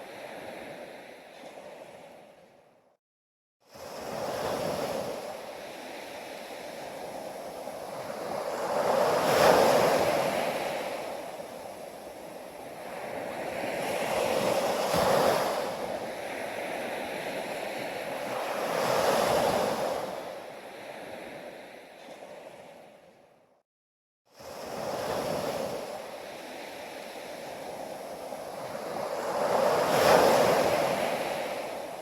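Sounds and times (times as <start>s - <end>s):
ocean waves breaking on beach: 0.0s - 2.6s, 3.7s - 23.2s, 24.4s - 32.0s.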